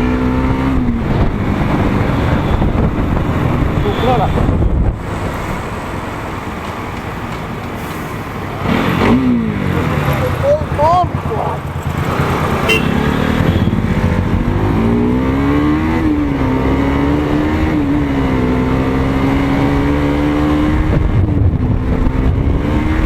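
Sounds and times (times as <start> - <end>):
motorcycle engine revving: 0.0 - 6.0, 8.5 - 23.0
road and wind noise: 0.0 - 23.0.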